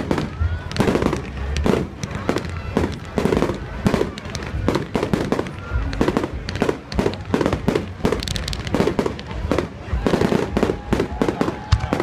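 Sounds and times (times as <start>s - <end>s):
fireworks booms and cracks: 0.0s - 12.0s.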